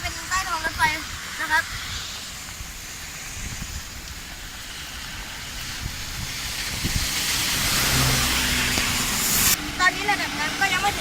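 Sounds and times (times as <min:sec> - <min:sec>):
wind buffeting microphone: 0:00.0 - 0:11.0
low rumble: 0:01.0 - 0:09.9.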